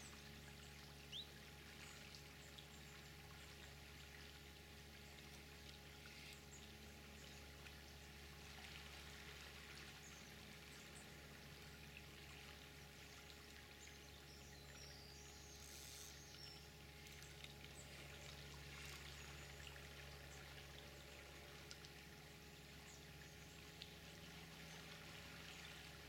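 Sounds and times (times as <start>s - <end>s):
flowing river: 0.0s - 26.0s.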